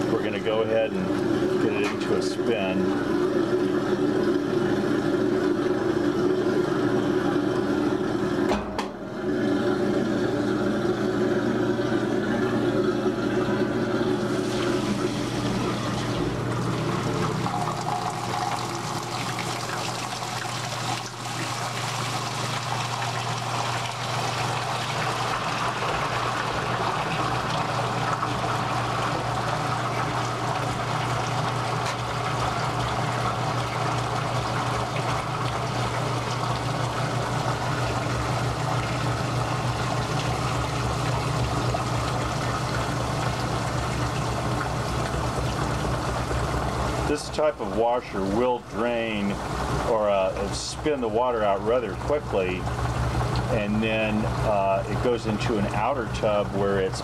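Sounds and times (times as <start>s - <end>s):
washing machine motor humming: 0.0s - 57.0s
water rushing in spinning tub: 0.0s - 57.0s.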